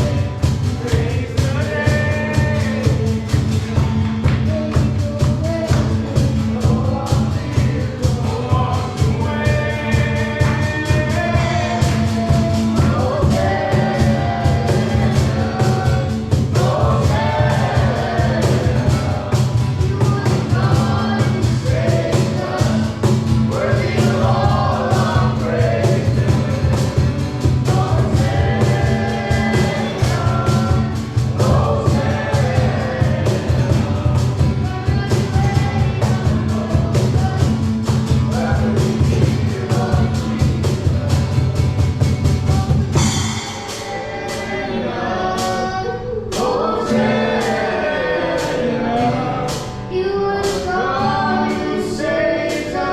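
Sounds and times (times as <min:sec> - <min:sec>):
band with heavy bass: 0:00.0 - 0:52.9
voices singing: 0:00.0 - 0:52.9.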